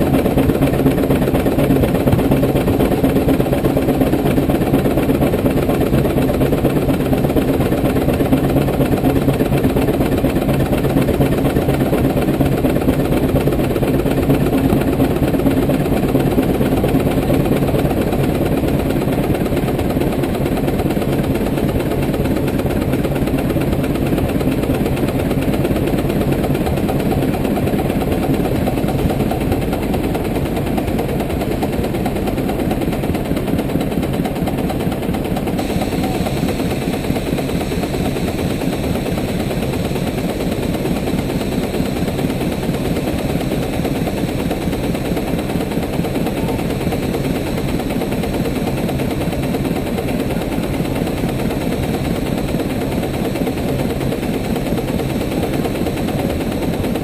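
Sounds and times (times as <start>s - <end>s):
steam engine exhaust chuffing: 0.0s - 57.0s.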